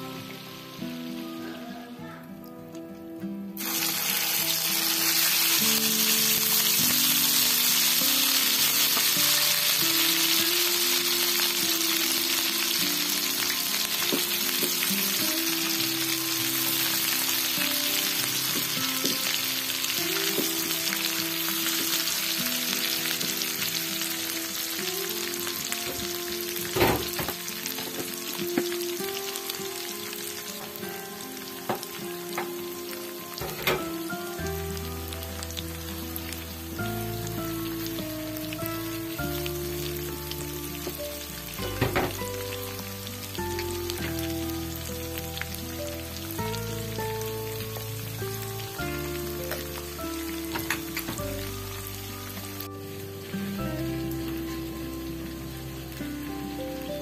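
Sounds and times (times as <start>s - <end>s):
chili paste sizzling in oil: 0.0s - 2.5s, 3.5s - 57.0s.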